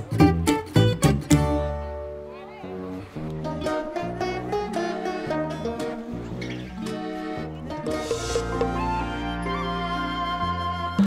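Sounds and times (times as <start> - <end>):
instrumental music with bass line: 0.0 - 11.0.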